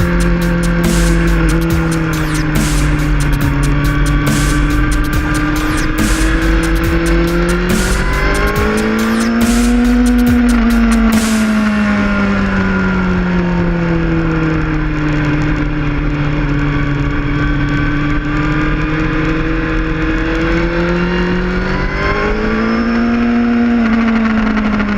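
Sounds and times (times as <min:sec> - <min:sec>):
road noise: 0:00.0 - 0:24.9
vehicle engine revving: 0:00.0 - 0:24.9.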